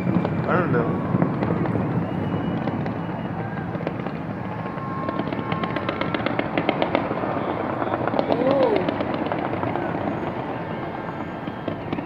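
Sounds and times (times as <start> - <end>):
crackling firework bursts: 0.0 - 12.0
fireworks explosions: 0.0 - 12.0.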